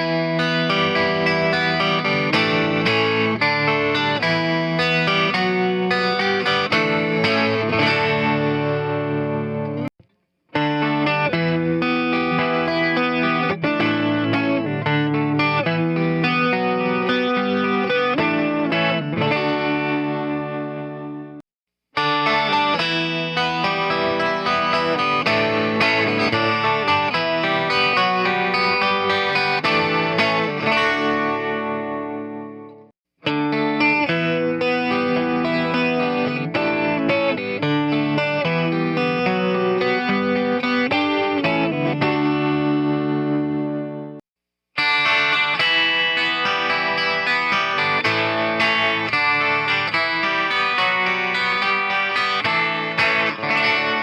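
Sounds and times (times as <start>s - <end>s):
electric guitar strumming chords: 0.0s - 9.9s, 10.6s - 21.4s, 22.0s - 44.2s, 44.8s - 54.0s.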